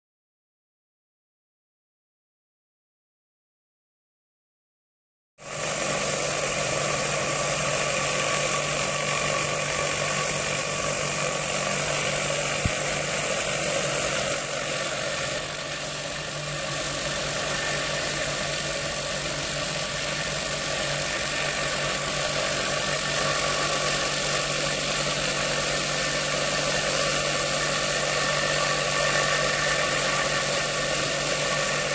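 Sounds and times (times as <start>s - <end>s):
motor hum: 5.4s - 31.9s.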